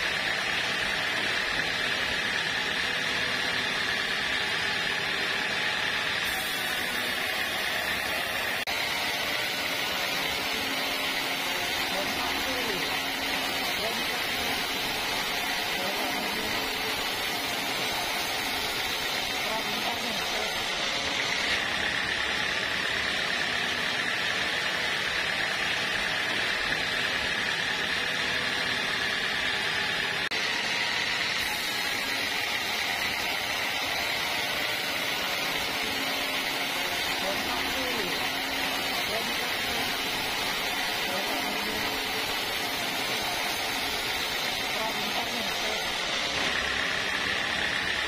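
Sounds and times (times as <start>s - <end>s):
high saw whine: 0.0s - 48.0s
sawmill machine running: 0.0s - 48.0s.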